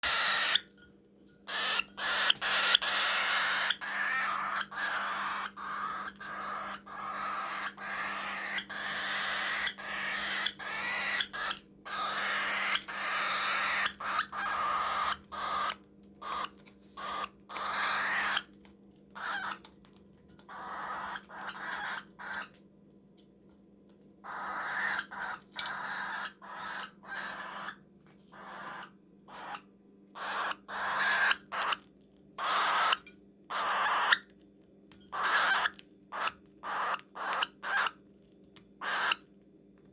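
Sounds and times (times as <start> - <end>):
cockatiel chick begging calls: 0.0 - 0.7, 1.5 - 18.5, 19.2 - 19.6, 20.5 - 22.5, 24.2 - 29.6, 30.2 - 31.8, 32.4 - 34.3, 35.1 - 38.0, 38.8 - 39.2
faint low hum: 0.0 - 39.9.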